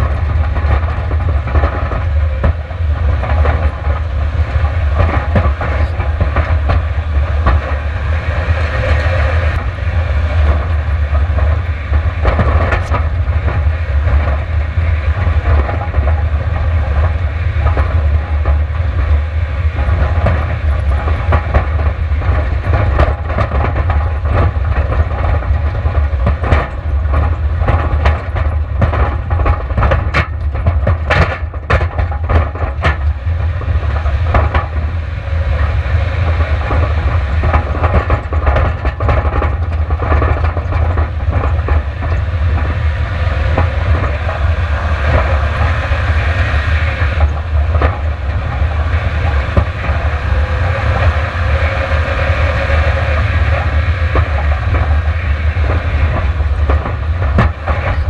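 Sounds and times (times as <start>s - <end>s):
car rattling and clattering: 0.0s - 58.0s
car rumbling over rocky trail: 0.0s - 58.0s.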